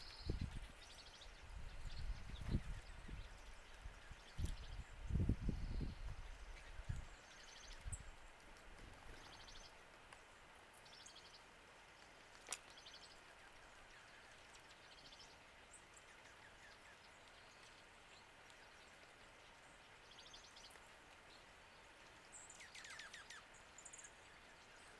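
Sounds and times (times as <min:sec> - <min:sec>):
soft outdoor hiss: 0:00.0 - 0:24.9.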